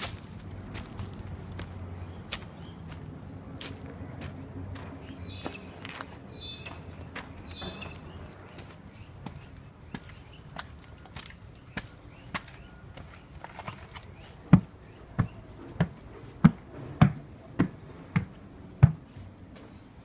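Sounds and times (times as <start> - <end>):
footsteps on stone path: 0.0 - 19.8
footsteps on wooden stairs: 0.0 - 19.8.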